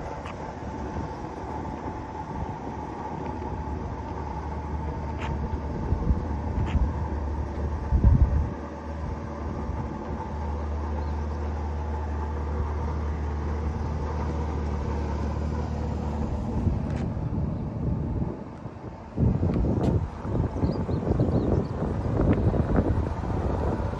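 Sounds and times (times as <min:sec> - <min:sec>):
truck engine running: 0:00.0 - 0:23.9.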